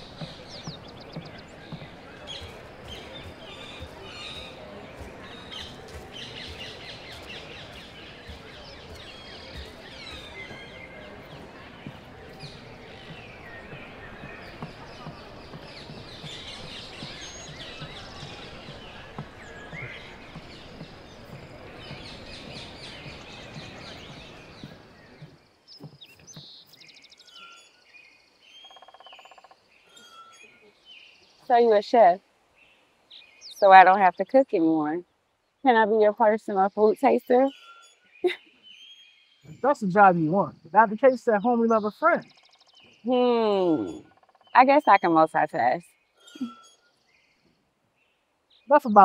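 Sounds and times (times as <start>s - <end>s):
birds chirping: 0.0s - 49.0s
steady outdoor background noise: 0.0s - 49.0s.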